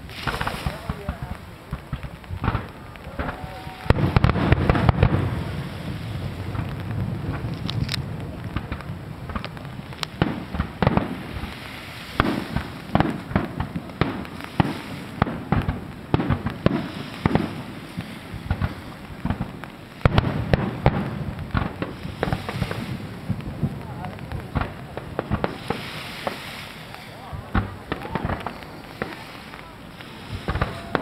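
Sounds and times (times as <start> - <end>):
fireworks exploding: 0.0 - 31.0.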